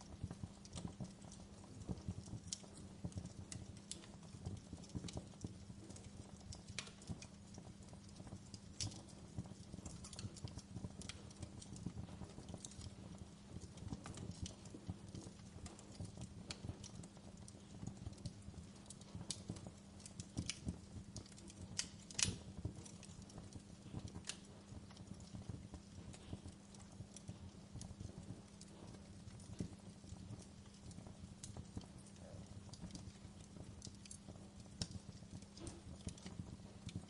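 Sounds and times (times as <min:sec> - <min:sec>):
low steady hum: 0:00.0 - 0:37.0
wood fire crackling: 0:00.0 - 0:37.0.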